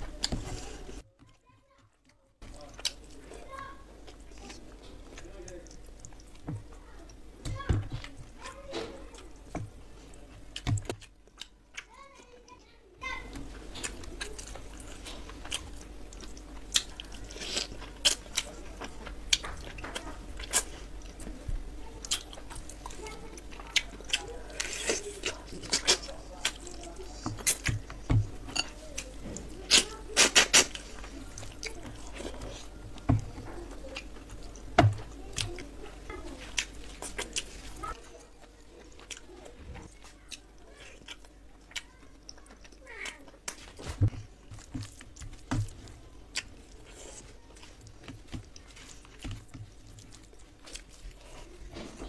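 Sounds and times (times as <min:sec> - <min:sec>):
person chewing: 0:02.4 - 0:12.0, 0:13.2 - 0:52.0.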